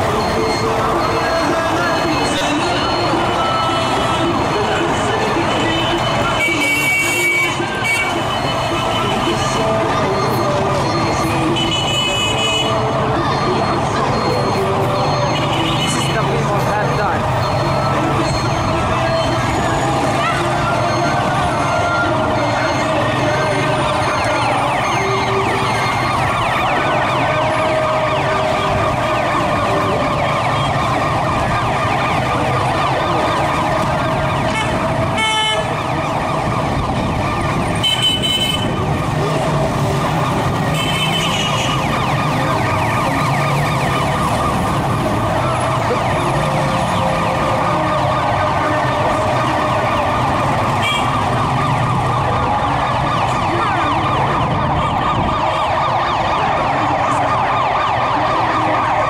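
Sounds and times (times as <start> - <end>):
emergency sirens wailing: 0.0 - 59.0
vehicle engines running: 0.0 - 59.0.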